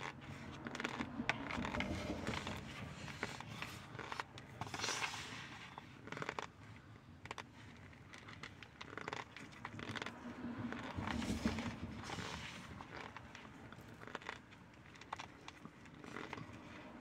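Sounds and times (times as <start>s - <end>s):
cornstarch crunching and crackling: 0.0s - 2.6s, 3.2s - 17.0s.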